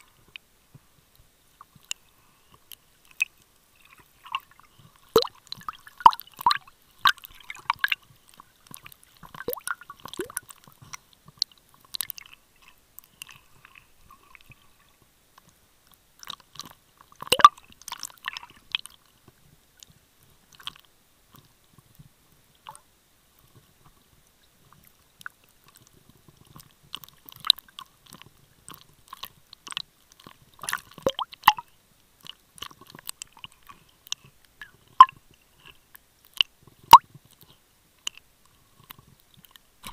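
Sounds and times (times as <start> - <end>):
underwater clicks and crackles: 0.0 - 39.9.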